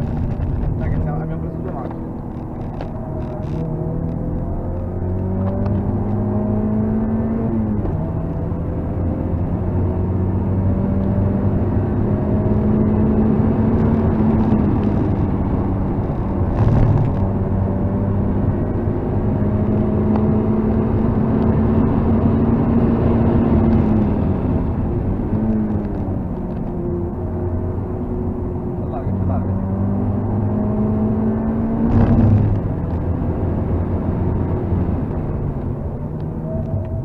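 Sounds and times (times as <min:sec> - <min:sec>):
car engine revving high: 0:00.0 - 0:25.8, 0:27.1 - 0:37.0.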